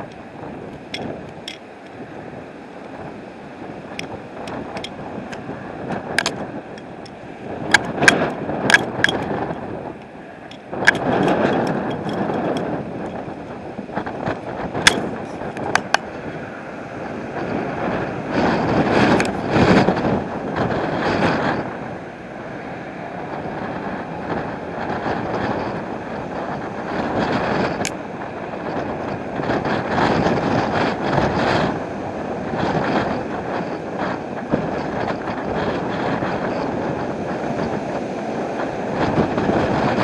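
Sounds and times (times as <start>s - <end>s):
wind gusting over microphone: 0.0s - 40.0s.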